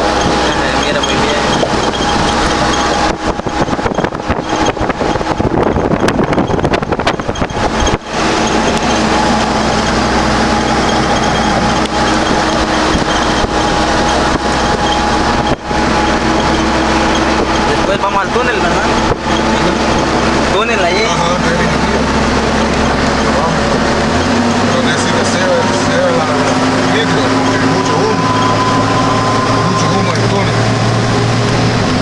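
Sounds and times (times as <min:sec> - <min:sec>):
road and engine noise inside vehicle: 0:00.0 - 0:32.0
steady hum tones: 0:00.0 - 0:32.0.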